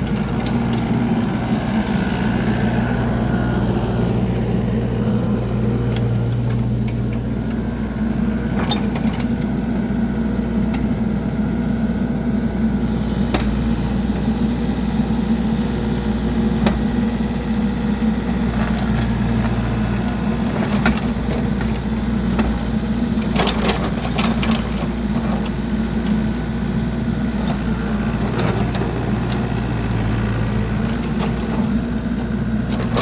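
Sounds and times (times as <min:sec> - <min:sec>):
construction machine engine idling: 0:00.0 - 0:33.0.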